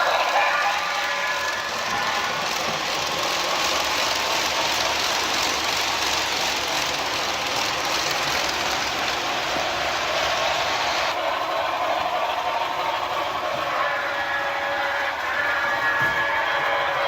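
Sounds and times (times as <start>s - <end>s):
model train steam hiss: 0.0s - 17.0s
wheels on rail: 0.0s - 17.0s.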